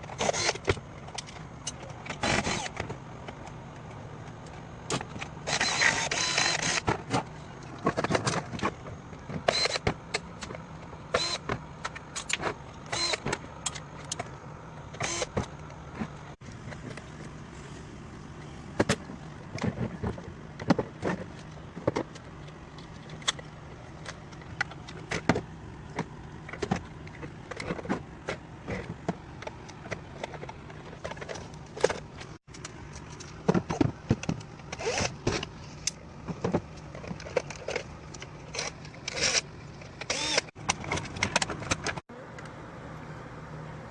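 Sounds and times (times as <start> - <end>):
plastic and metal parts clicking: 0.0 - 14.3, 18.8 - 42.0
steady low hum: 0.0 - 43.9.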